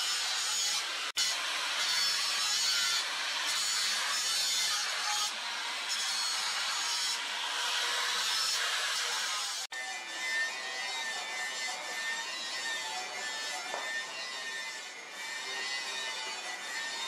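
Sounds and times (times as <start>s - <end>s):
angle grinder grinding steel: 0.0s - 17.0s.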